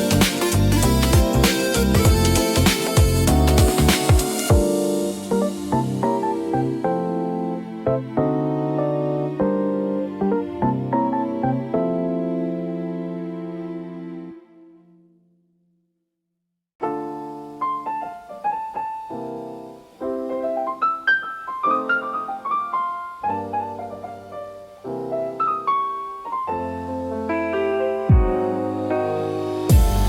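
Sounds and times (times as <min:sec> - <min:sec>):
piano music: 0:00.0 - 0:15.4, 0:16.8 - 0:30.0.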